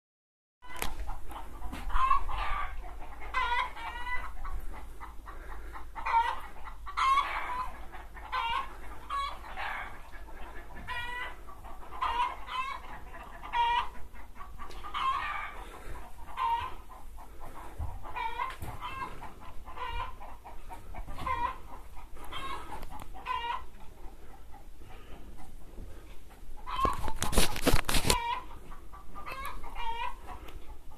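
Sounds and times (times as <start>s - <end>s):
chickens clucking: 0.6s - 30.9s.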